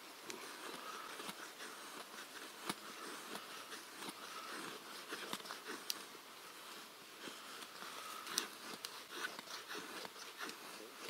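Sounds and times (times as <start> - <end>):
knife scraping a twig: 0.0 - 11.0.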